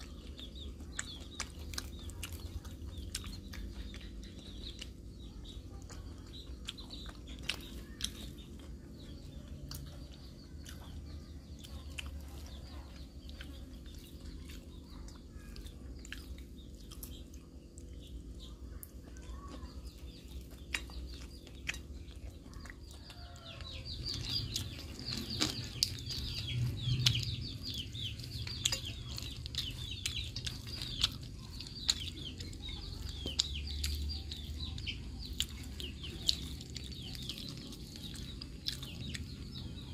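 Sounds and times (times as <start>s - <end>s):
birds chirping: 0.0s - 39.9s
chewing with lip-smacking: 0.0s - 39.9s.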